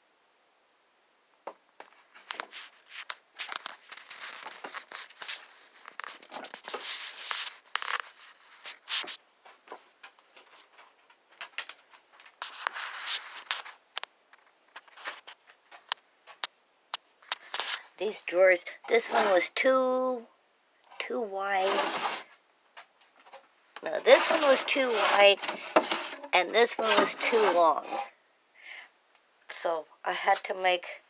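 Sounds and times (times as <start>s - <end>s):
rustling and scraping: 1.8s - 16.5s, 17.1s - 20.2s, 20.9s - 28.2s.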